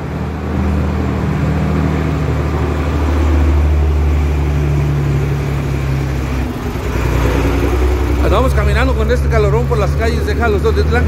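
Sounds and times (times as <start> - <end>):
car engine driving past: 0.0 - 11.0.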